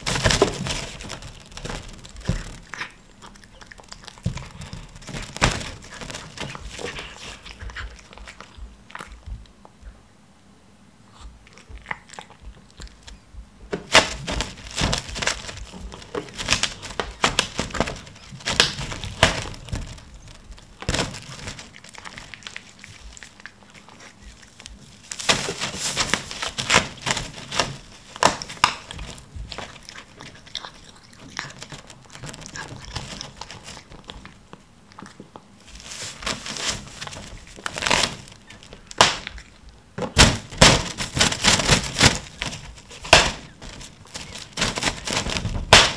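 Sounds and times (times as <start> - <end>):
plastic film crinkling: 0.0 - 8.6, 13.7 - 34.5, 35.6 - 45.9.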